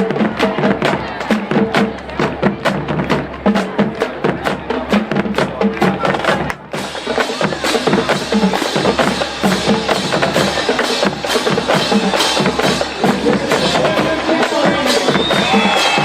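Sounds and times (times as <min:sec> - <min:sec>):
drumline cadence: 0:00.0 - 0:16.0.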